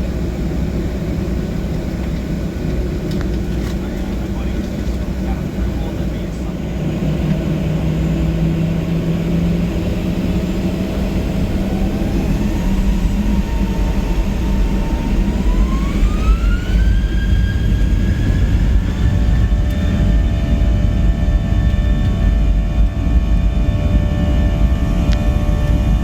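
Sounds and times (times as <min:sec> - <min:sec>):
jet engines spooling up: 0:00.0 - 0:26.0.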